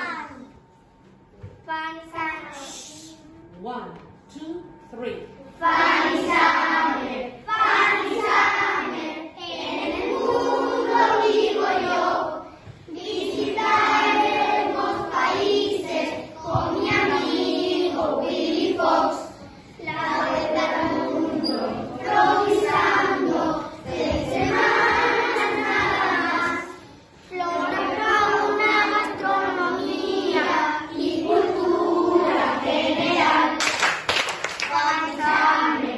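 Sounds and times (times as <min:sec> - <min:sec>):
children singing in unison: 0:05.6 - 0:33.7, 0:34.6 - 0:35.9.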